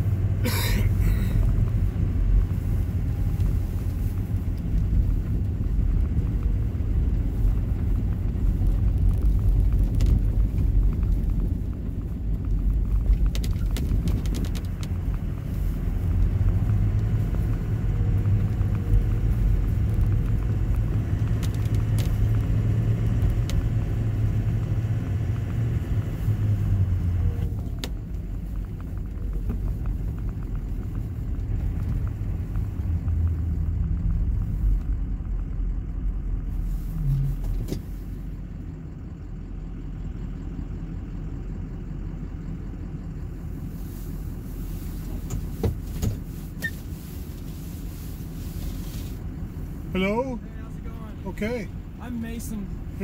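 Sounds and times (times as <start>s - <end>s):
vehicle driving on snow: 0.0s - 53.0s.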